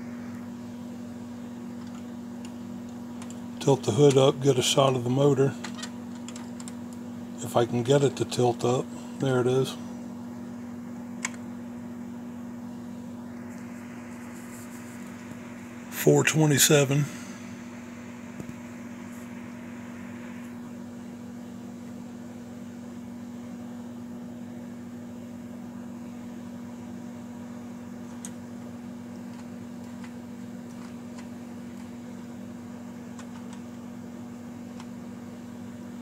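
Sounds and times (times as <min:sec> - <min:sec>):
low machine hum with hiss: 0:00.0 - 0:36.0.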